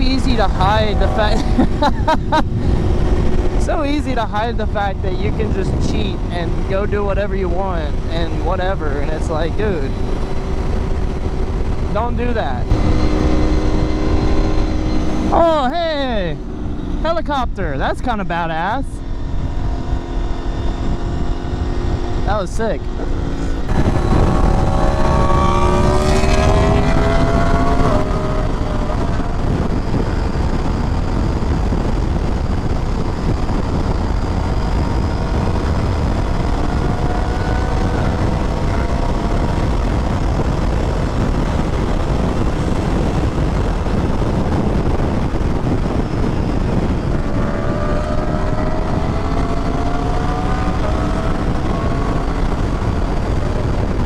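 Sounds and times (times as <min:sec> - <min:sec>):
motorcycle engine accelerating: 0:00.0 - 0:54.0
wind rushing: 0:00.0 - 0:54.0.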